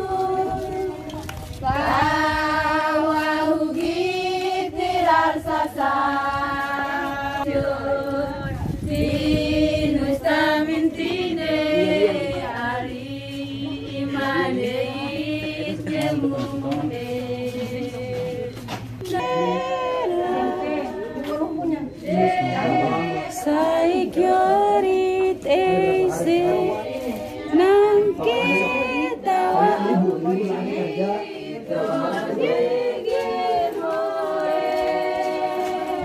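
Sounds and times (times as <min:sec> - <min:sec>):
women singing in unison: 0:00.0 - 0:36.0.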